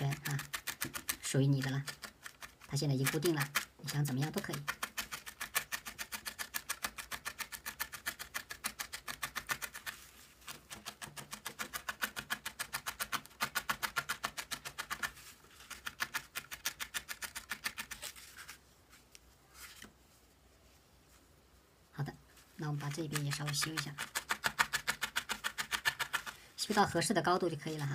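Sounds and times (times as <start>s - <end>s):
felting needle stabbing foam: 0.0s - 18.2s, 22.7s - 27.0s.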